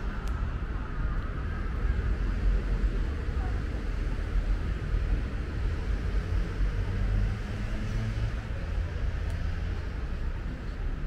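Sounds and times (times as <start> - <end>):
road traffic rumble: 0.0 - 11.0
vehicle engine hum: 0.0 - 11.0.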